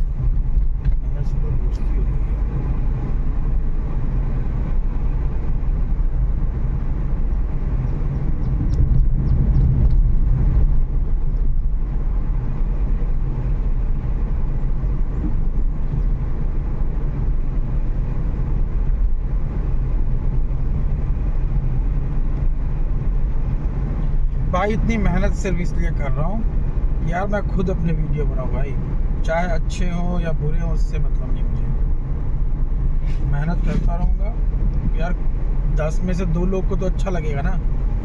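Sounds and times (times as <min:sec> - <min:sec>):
car engine rumble: 0:00.0 - 0:38.0
tyres rumbling on rough road: 0:00.0 - 0:38.0.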